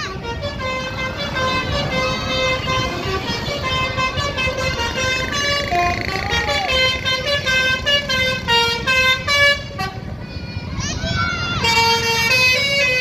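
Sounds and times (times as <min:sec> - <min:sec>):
musical bus horn tune: 0:00.0 - 0:10.2, 0:11.6 - 0:13.0
low rumble of traffic: 0:00.0 - 0:13.0.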